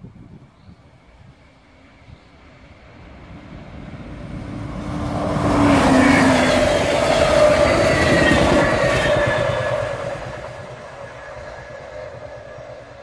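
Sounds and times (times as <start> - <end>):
wheels rumbling on rails: 0.1 - 13.0
locomotive engine: 2.6 - 13.0.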